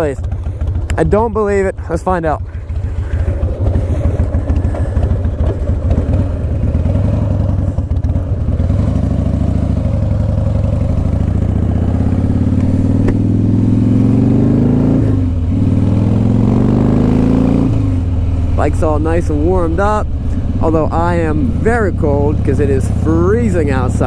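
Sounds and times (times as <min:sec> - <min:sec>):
motorcycle engine pulling away: 0:02.4 - 0:24.0.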